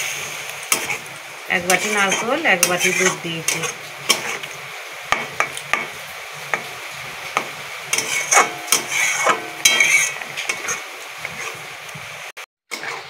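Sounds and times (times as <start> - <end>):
metal spatula scraping metal pan: 0.7 - 6.7, 7.4 - 11.7, 12.7 - 13.0.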